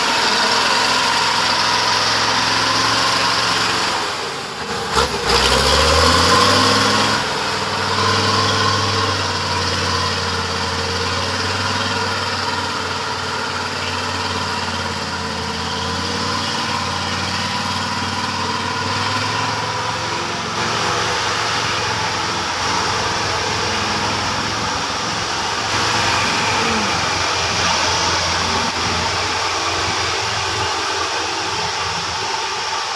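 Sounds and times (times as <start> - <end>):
truck diesel engine revving: 0.0 - 32.9.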